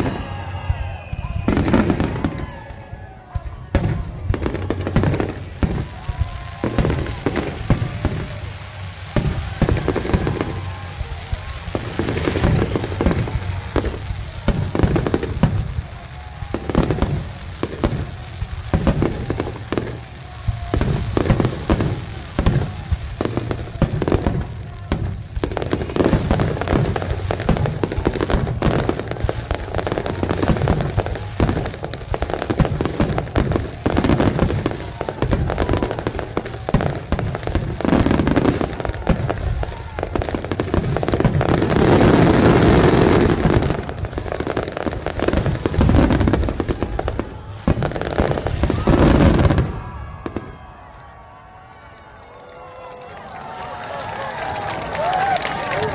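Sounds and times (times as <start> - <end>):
fireworks booming and crackling: 0.0 - 51.7.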